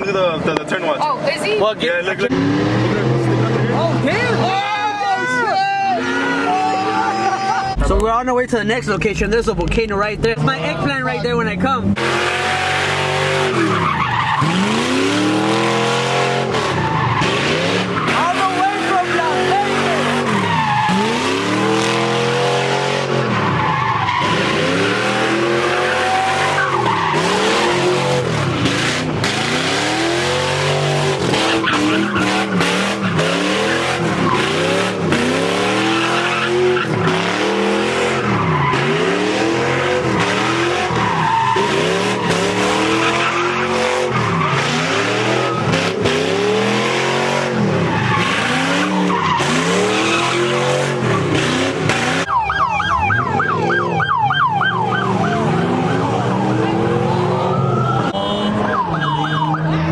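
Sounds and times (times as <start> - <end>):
tyres squealing and skidding: 0.0 - 8.0, 10.1 - 59.9
car engine revving: 0.0 - 59.9.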